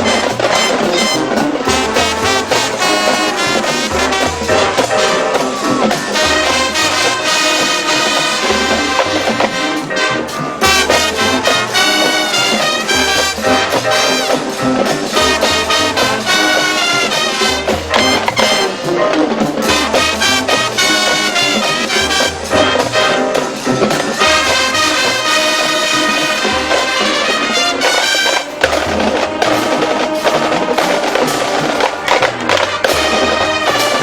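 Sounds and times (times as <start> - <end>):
marching band brass playing: 0.0 - 34.0.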